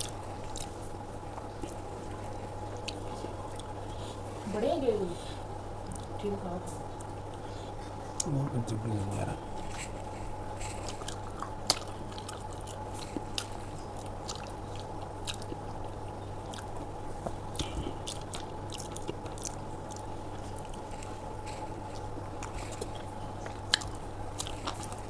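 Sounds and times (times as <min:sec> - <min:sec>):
person chewing: 0:00.0 - 0:04.2, 0:05.8 - 0:06.2, 0:07.0 - 0:08.4, 0:09.5 - 0:25.0
steady low hum: 0:00.0 - 0:25.0.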